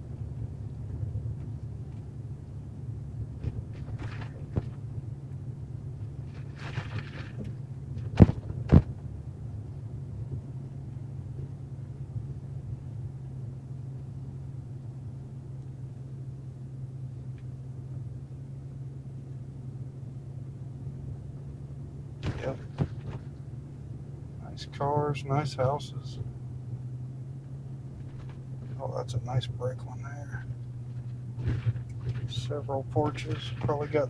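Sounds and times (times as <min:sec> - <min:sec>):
car cabin driving drone: 0:00.0 - 0:34.0.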